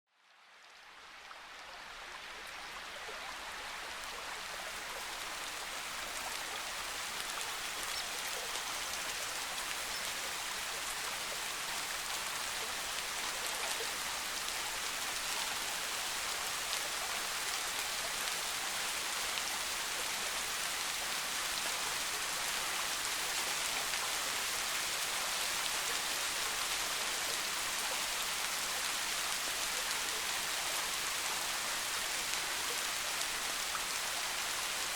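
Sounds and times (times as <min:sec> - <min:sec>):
soft steady rain: 0:00.1 - 0:34.9.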